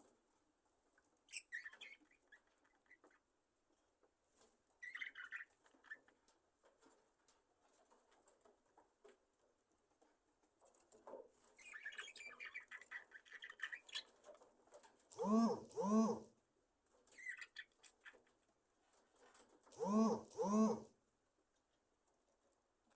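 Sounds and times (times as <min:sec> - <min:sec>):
small clicks and rustles: 0:00.0 - 0:15.8, 0:16.8 - 0:20.5.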